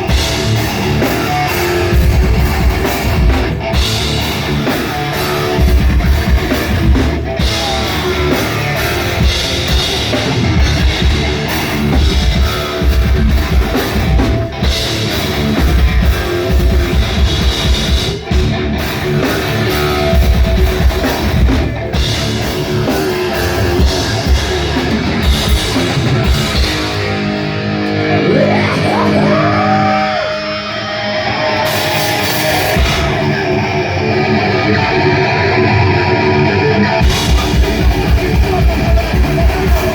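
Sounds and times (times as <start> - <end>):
drum kit: 0.0 - 29.7, 31.6 - 34.5, 36.4 - 39.9
distorted electric guitars: 0.0 - 39.9
heavy metal band playing live: 0.0 - 39.9.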